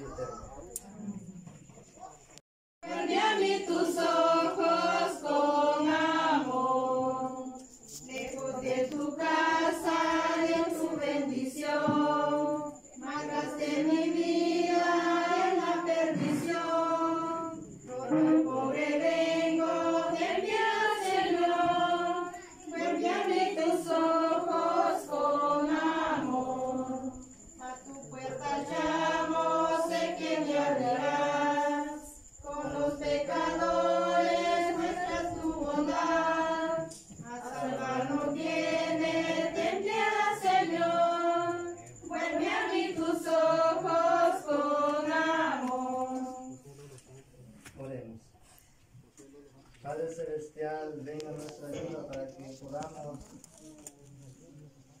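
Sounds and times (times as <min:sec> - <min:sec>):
group of people singing: 0:02.8 - 0:46.9.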